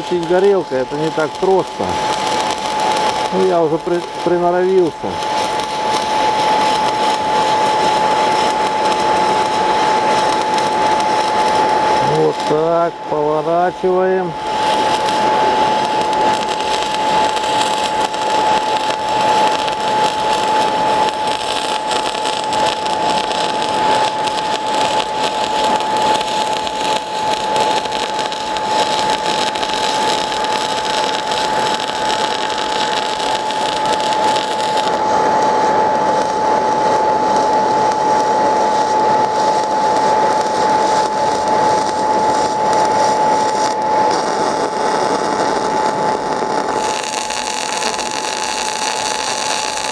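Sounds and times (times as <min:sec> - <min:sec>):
welding arc crackling: 0:00.0 - 0:49.9.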